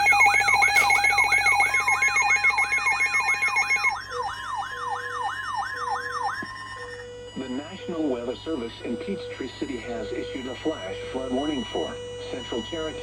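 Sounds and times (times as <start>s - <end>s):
falling siren sweep: 0.0s - 13.0s
steady warning tone: 0.0s - 13.0s.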